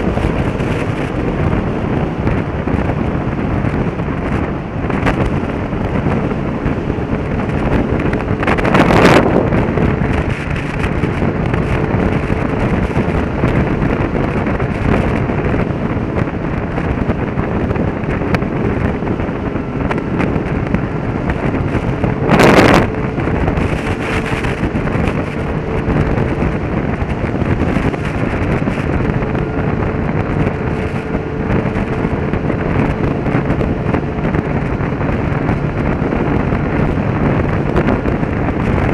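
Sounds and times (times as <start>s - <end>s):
faint engine hum: 0.0s - 38.9s
loud rushes of noise: 0.0s - 38.9s
motorcycle road noise: 0.0s - 38.9s
wind noise on microphone: 0.0s - 38.9s.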